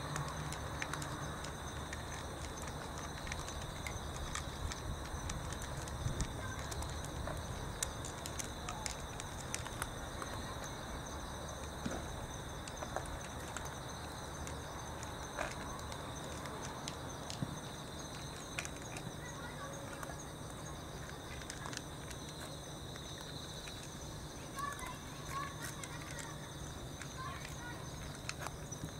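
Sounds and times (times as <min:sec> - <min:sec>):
insects chirring: 0:00.0 - 0:28.9.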